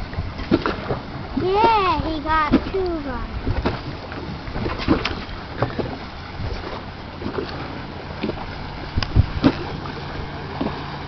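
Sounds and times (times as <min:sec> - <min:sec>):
choppy water: 0:00.0 - 0:11.0
wind buffeting microphone: 0:00.0 - 0:11.0.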